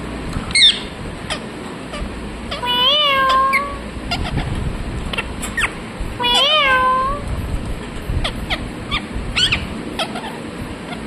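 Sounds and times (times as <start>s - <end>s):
parakeet calling: 0.5s - 7.2s, 8.2s - 11.0s.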